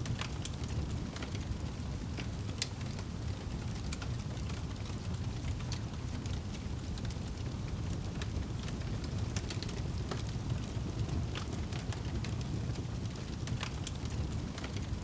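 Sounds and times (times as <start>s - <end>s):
flames rumbling: 0.0s - 15.0s
wood crackling and popping: 0.0s - 15.0s.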